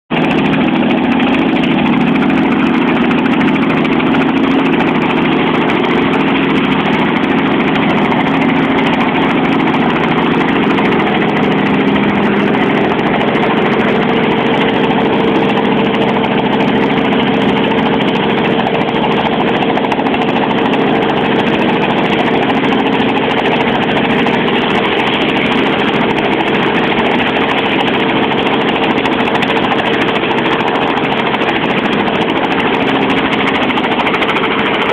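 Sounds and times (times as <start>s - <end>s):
helicopter idling: 0.1s - 34.9s.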